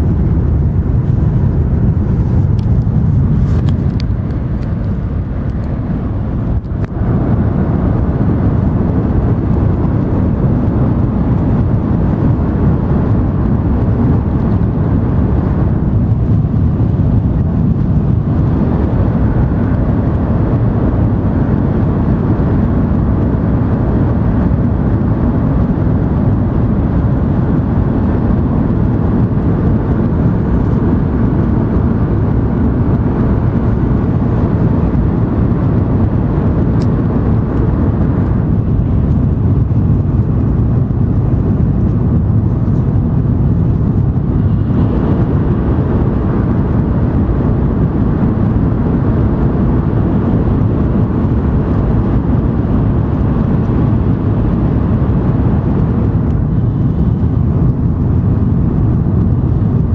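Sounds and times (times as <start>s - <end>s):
train rumble inside cabin: 0.0s - 59.9s.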